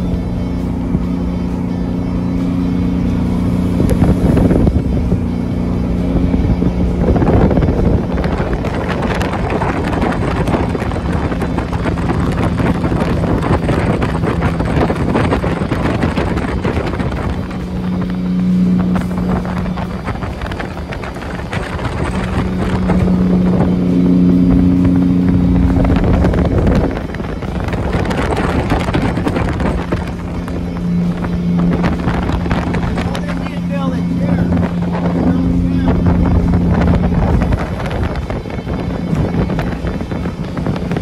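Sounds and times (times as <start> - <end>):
boat engine drone: 0.0 - 41.0
water rushing under hull: 0.0 - 41.0
wind buffeting microphone: 0.0 - 41.0.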